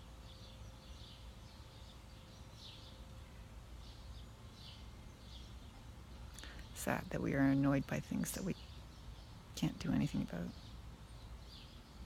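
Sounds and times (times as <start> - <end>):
thin steady hum: 0.0 - 12.0
low outdoor rumble: 0.9 - 12.0.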